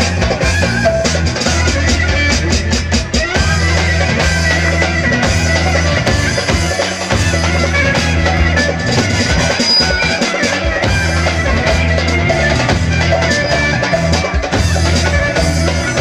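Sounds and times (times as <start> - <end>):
loud dance music with drums: 0.0 - 16.0.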